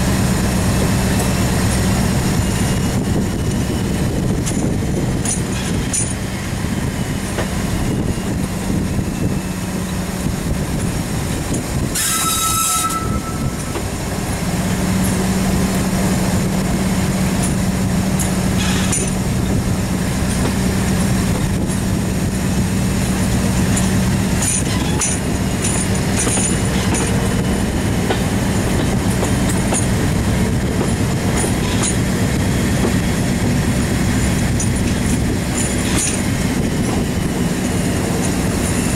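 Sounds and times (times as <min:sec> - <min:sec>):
wheel and rail noise: 0:00.0 - 0:38.9.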